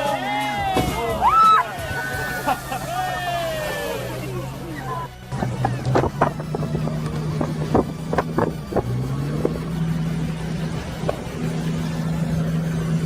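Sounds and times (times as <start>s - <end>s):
engine running steadily: 0.7s - 13.0s.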